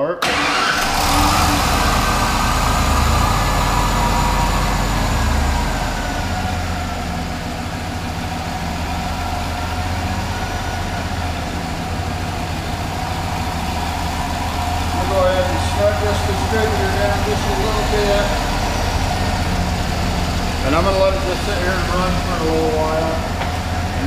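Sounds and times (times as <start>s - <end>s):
car engine idling: 0.2s - 24.0s.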